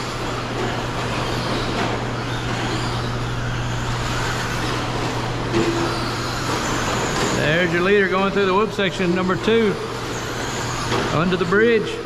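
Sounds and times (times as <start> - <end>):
constant low hum: 0.0 - 12.0
rc trucks racing on dirt: 0.0 - 12.0.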